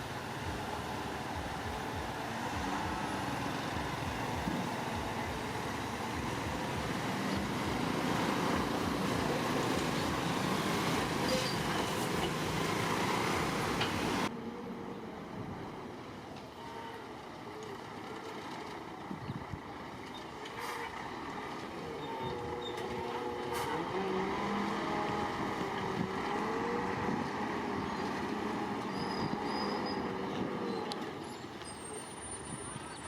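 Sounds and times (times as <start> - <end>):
heavy diesel machinery running: 0.0 - 33.0
quieter engine running: 0.0 - 33.0.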